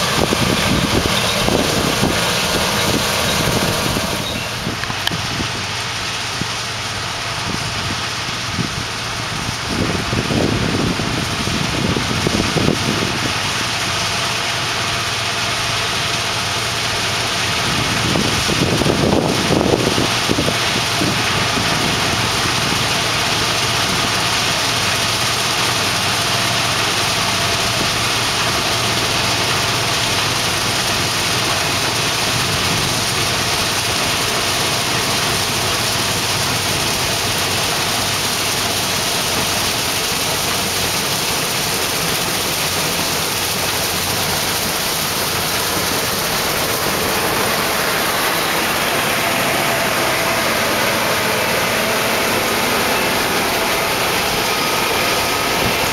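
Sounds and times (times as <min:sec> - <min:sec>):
combine harvester running: 0:00.0 - 0:55.9.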